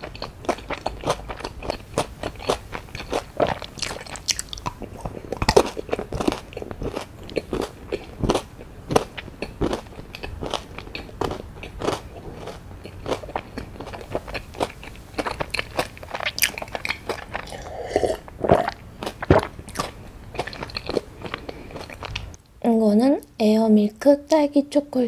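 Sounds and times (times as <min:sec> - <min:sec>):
chocolate crunching: 0:00.0 - 0:22.4
wet mouth sounds: 0:00.0 - 0:22.4.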